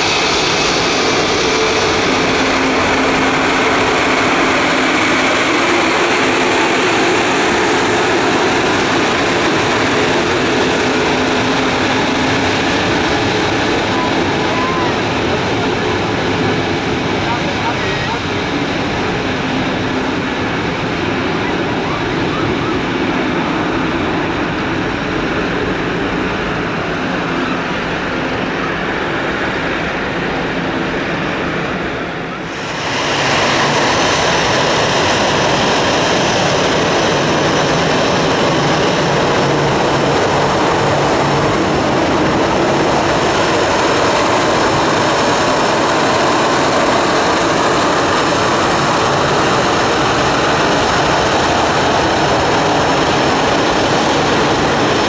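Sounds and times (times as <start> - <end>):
high jet engine whine: 0.0 - 55.0
jet engines at taxi power: 0.0 - 55.0.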